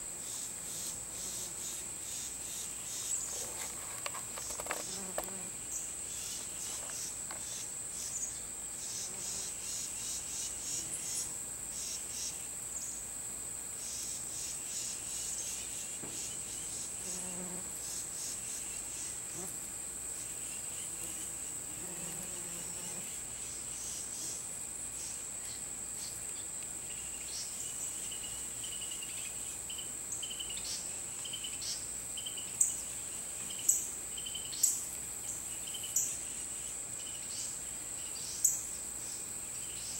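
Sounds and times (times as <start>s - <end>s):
insects trilling: 0.0s - 39.9s
rapid pulsing insect chirp: 0.0s - 39.9s.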